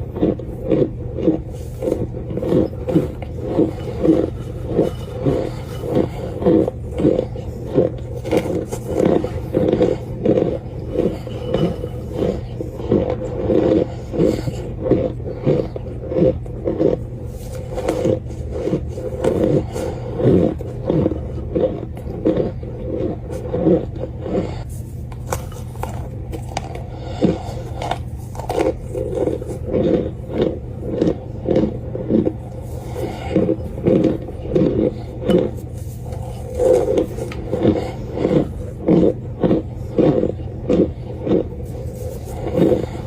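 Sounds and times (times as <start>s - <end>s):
crunchy chewing: 0.0s - 43.0s
steady low hum: 0.0s - 43.0s.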